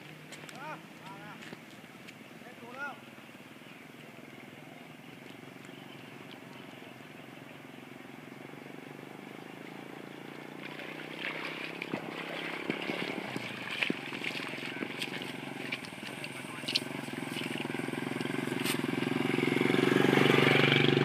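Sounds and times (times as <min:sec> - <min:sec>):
engine running: 0:04.0 - 0:21.0.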